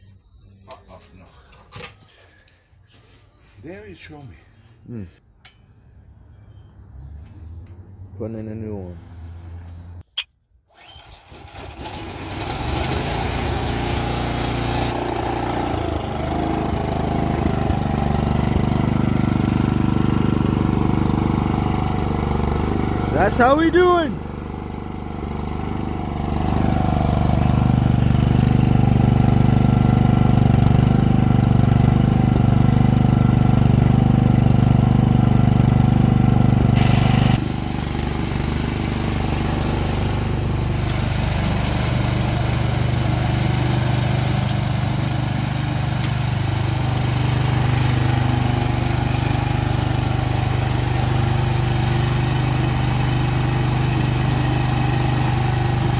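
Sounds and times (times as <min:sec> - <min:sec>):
snowblower engine running: 0:10.7 - 0:55.9.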